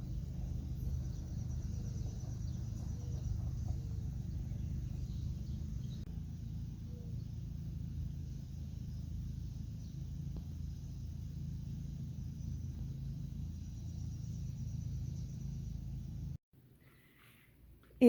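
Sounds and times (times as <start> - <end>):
low rumble: 0.0 - 16.4.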